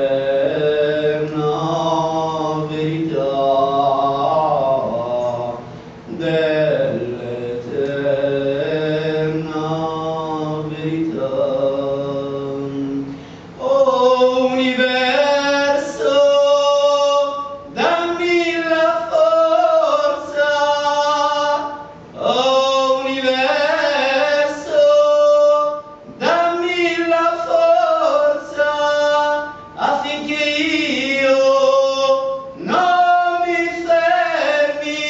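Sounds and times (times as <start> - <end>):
man singing devotional song: 0.0 - 35.0.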